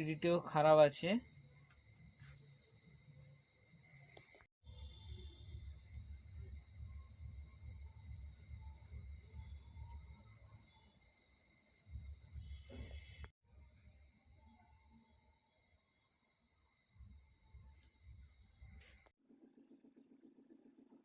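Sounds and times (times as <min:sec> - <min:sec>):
crickets chirring: 0:00.0 - 0:19.1.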